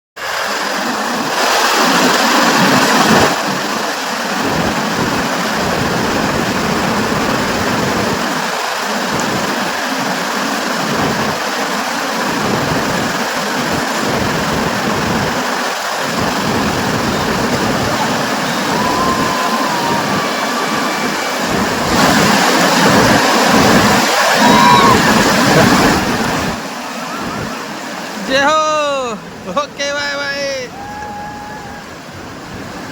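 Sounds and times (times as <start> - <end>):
whitewater rushing: 0.2 - 32.9.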